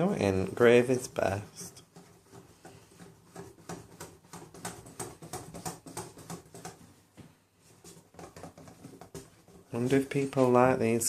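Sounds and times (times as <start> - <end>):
batter beaten in a bowl: 0.0 - 10.3.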